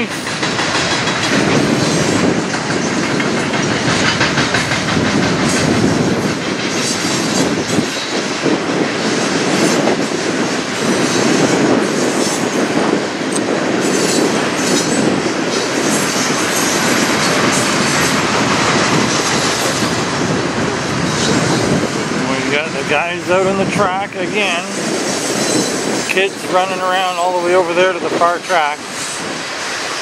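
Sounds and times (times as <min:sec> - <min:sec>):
steel train wheels on rails: 0:00.0 - 0:30.0.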